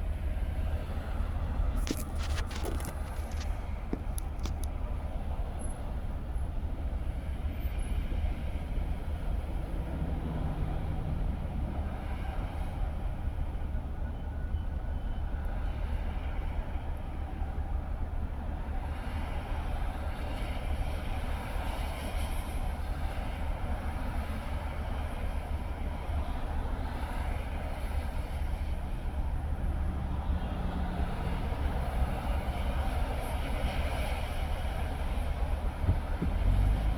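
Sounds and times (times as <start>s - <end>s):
car engine and tyre rumble: 0.0s - 36.9s.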